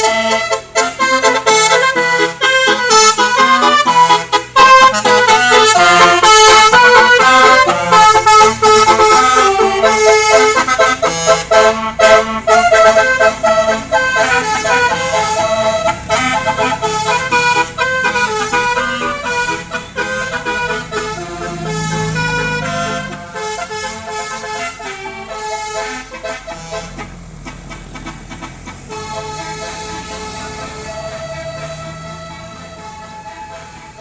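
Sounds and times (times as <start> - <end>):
musical air horn playing a tune: 0.0 - 34.0.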